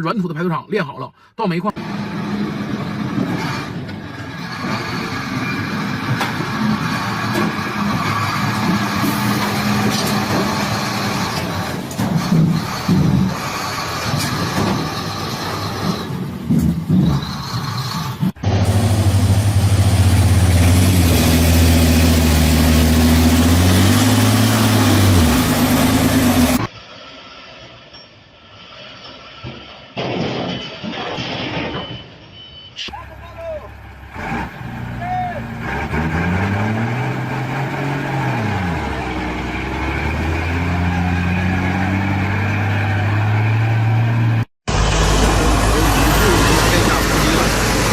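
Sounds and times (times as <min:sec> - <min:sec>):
heavy vehicle engine running: 0:01.8 - 0:27.5, 0:33.0 - 0:47.9.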